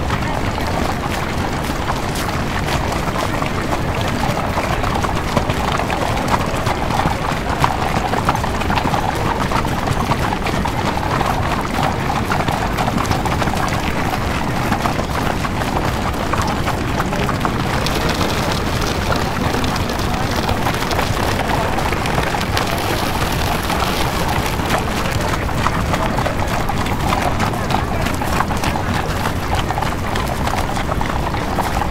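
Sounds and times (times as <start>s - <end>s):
horse hooves clip-clopping: 0.0s - 31.9s
street noise: 0.0s - 31.9s.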